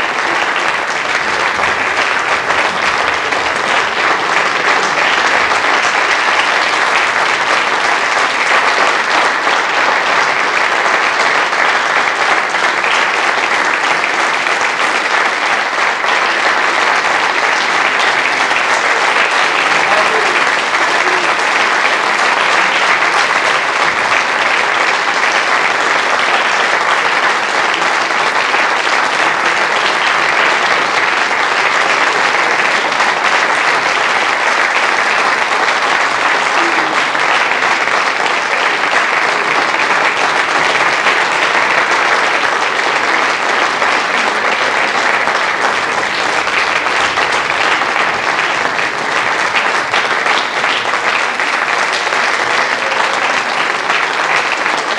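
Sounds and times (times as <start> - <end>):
audience applauding: 0.0 - 54.9.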